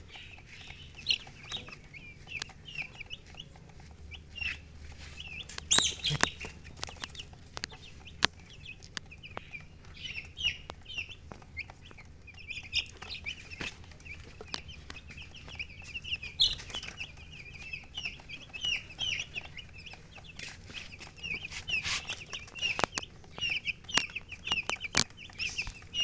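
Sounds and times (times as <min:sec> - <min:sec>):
baby chicks peeping: 0:00.0 - 0:26.0.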